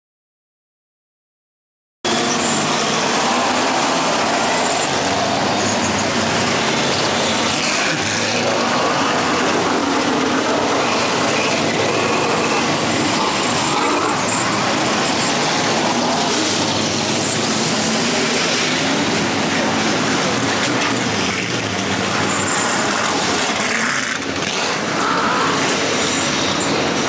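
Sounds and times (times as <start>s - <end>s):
race car engines passing slowly: 2.1s - 27.0s.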